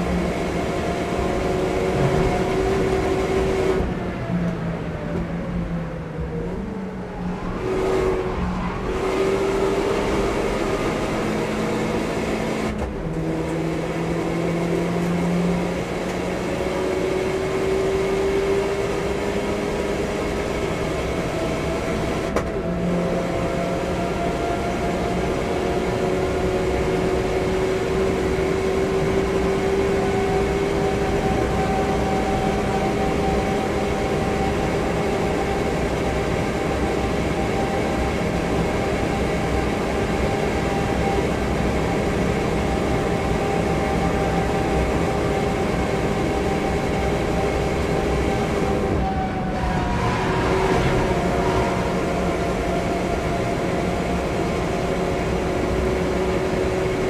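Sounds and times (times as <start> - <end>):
car engine pulling hard: 0.0 - 5.6, 6.4 - 57.0
wind and tyre noise: 0.0 - 57.0.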